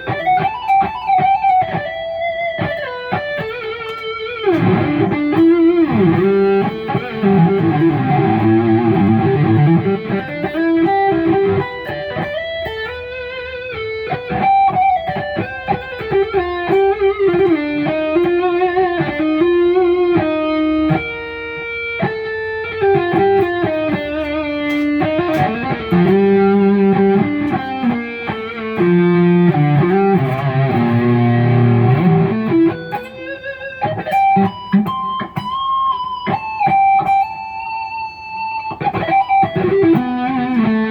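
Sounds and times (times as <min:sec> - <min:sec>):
distorted electric guitar lead: 0:00.0 - 0:40.9.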